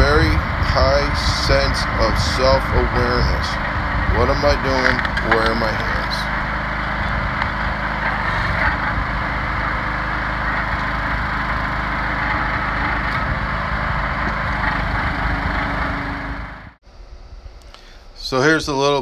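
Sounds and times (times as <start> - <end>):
log splitter engine running: 0.0 - 16.8.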